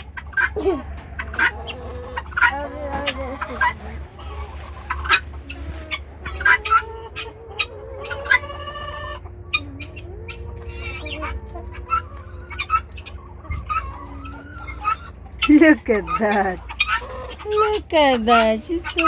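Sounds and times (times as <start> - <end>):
chicken squawk: 0.0 - 19.0
chickens clucking: 0.0 - 19.0.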